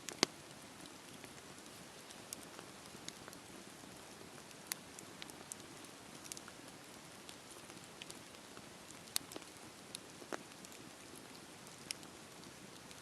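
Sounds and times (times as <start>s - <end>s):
burning wood crackling and popping: 0.0s - 13.0s.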